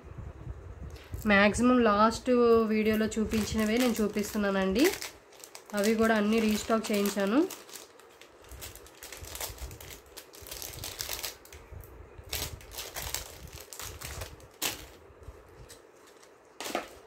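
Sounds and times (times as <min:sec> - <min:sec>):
packaging rustling and crinkling: 0:02.8 - 0:17.0.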